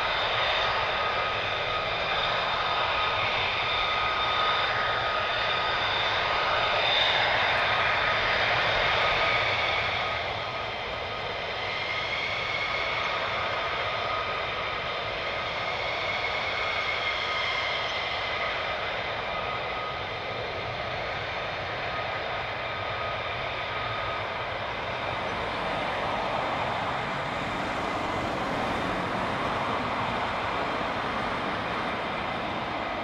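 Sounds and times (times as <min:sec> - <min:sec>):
jet engine whining: 0:00.0 - 0:33.0.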